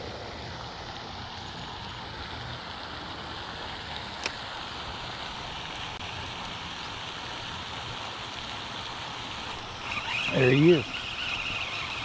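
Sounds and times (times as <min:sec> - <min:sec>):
fountain spray splashing: 0:00.0 - 0:12.0.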